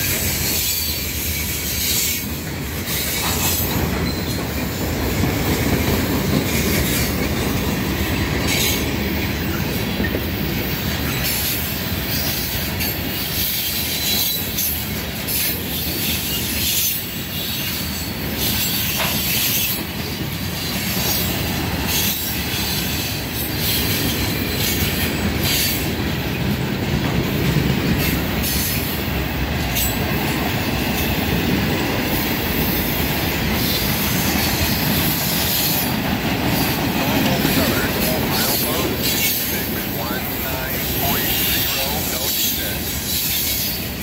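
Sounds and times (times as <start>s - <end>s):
freight train wheels clattering on rails: 0.0s - 44.0s.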